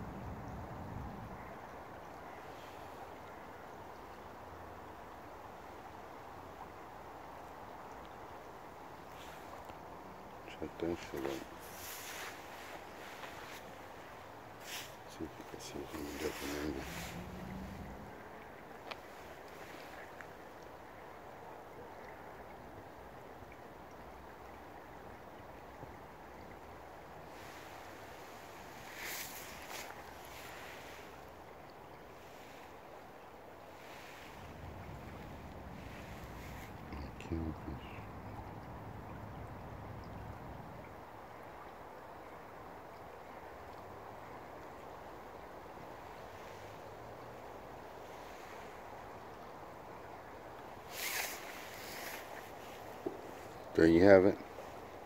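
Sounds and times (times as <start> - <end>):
shallow river flowing: 0.0 - 55.0.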